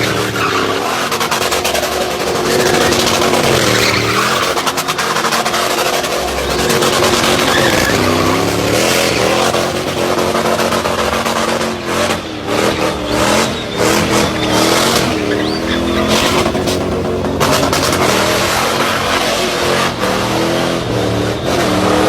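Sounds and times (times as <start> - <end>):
car engine revving: 0.0 - 22.0
tyres squealing and skidding: 0.0 - 22.0.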